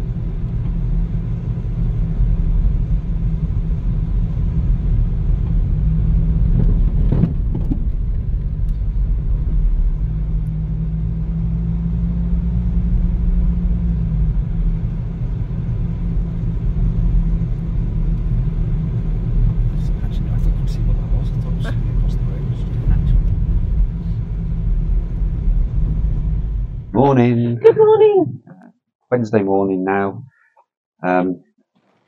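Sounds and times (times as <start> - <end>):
car engine and tyre rumble: 0.0 - 27.2.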